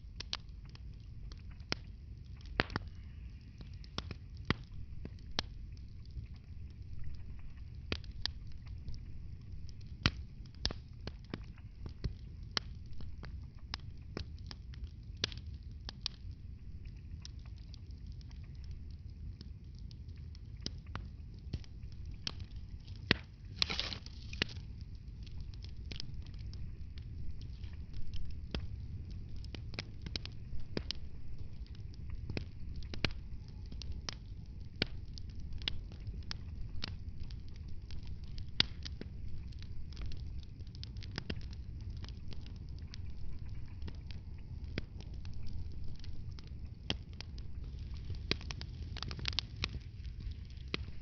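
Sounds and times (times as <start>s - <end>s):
fire crackling and popping: 0.0s - 51.0s
low rumble of flames: 0.0s - 51.0s.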